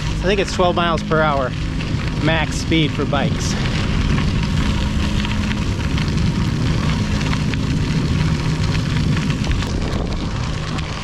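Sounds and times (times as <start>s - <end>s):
bike tyres crunching on gravel: 0.0s - 11.0s
wind rumbling on microphone: 0.0s - 11.0s.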